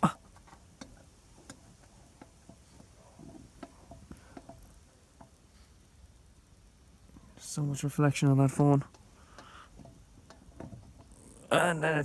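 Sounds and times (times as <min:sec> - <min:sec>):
soft rustle: 0:00.2 - 0:11.6.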